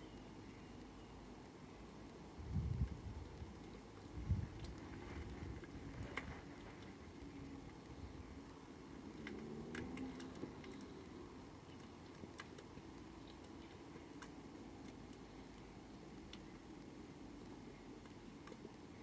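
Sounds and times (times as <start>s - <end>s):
food dripping ticks and plops: 0.0s - 19.0s
low steady outdoor hum: 0.0s - 19.0s.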